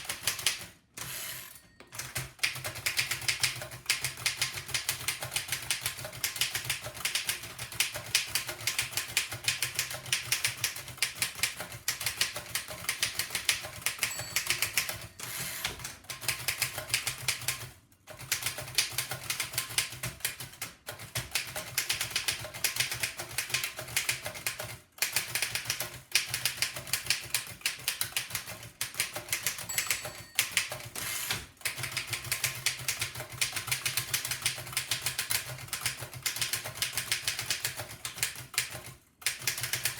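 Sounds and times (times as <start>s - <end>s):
typewriter typing: 0.0s - 39.9s.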